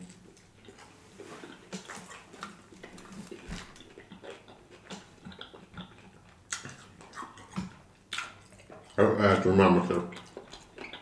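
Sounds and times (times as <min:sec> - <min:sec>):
wet mouth clicks and smacks: 0:00.0 - 0:09.0, 0:10.1 - 0:11.0
chewing crispy chicken: 0:00.0 - 0:11.0.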